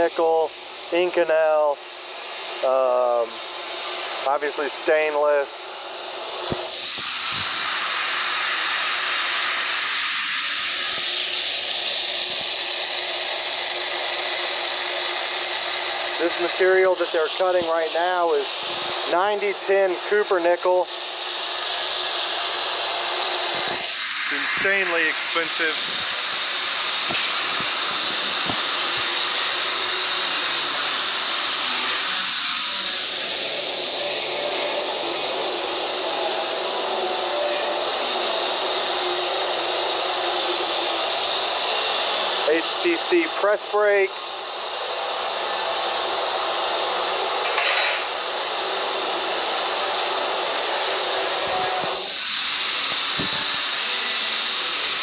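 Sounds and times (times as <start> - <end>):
cutting machine hissing: 0.0 - 55.0.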